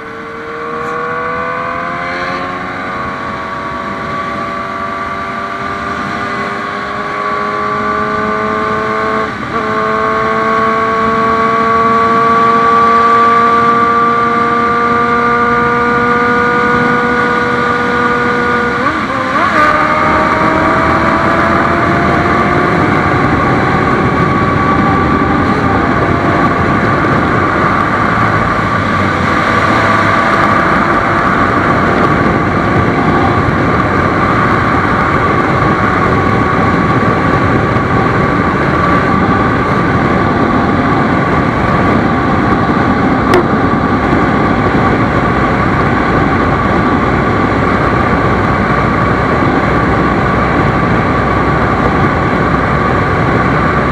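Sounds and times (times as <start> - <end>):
motorcycle engine running: 0.0 - 53.9
steady rushing noise: 0.0 - 53.9.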